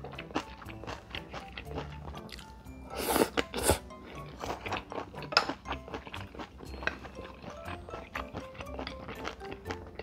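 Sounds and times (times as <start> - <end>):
close chewing and mouth sounds: 0.0 - 10.0
light background music: 0.0 - 10.0.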